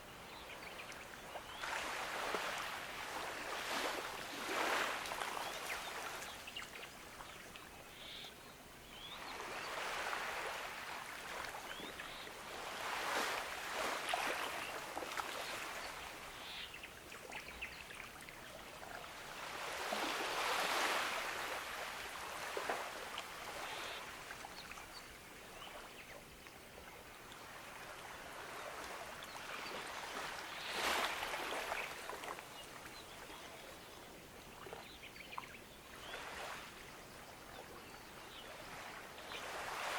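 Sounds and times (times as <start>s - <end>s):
gentle ocean waves on beach: 0.0s - 39.9s.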